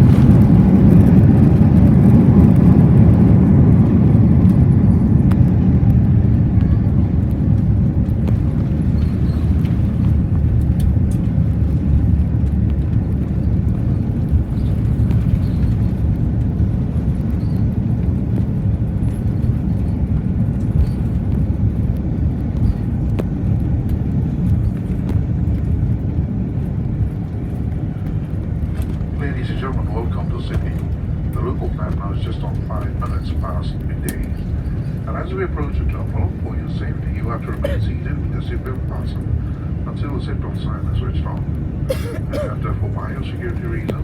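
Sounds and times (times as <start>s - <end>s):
airliner cabin rumble while taxiing: 0.0s - 44.0s.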